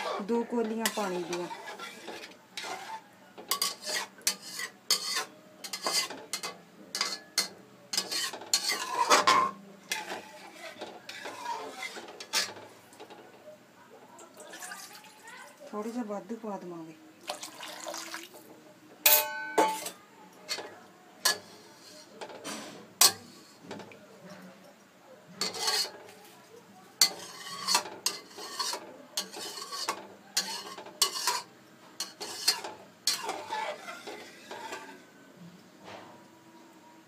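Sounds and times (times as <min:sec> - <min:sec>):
spoon stirring in metal pan: 0:00.0 - 0:16.1, 0:17.2 - 0:35.3.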